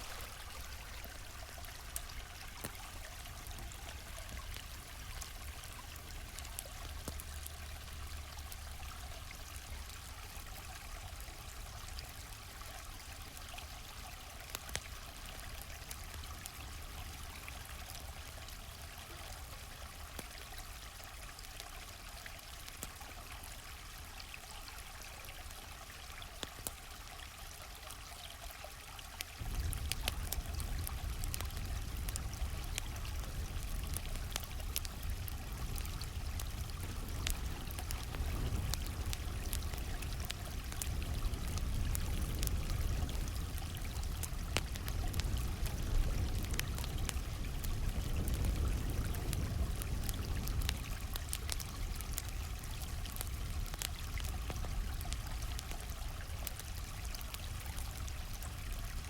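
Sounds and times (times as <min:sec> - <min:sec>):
campfire crackling: 0:00.0 - 0:59.0
stream water flowing: 0:00.0 - 0:59.0.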